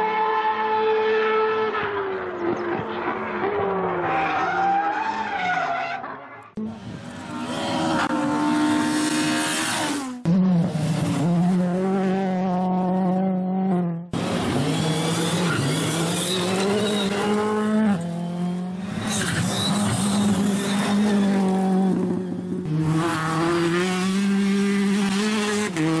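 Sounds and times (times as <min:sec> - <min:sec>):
racing car engines at high revs: 0:00.0 - 0:26.0.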